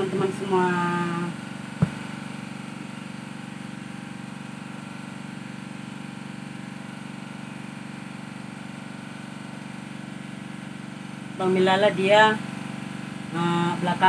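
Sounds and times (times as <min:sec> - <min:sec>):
small engine running steadily: 0:00.0 - 0:14.0.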